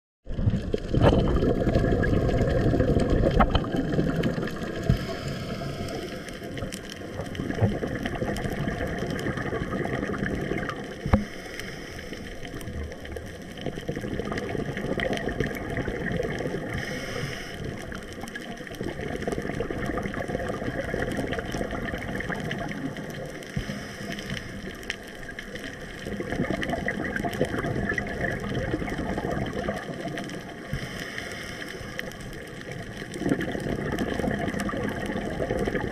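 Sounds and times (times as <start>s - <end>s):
muffled underwater rushing: 0.2s - 35.9s.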